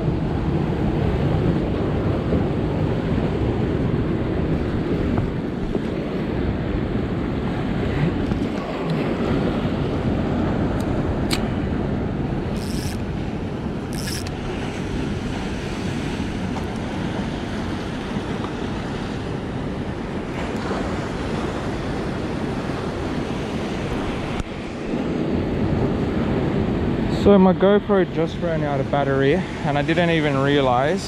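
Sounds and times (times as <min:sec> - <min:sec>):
wind buffeting microphone: 0:00.0 - 0:27.2.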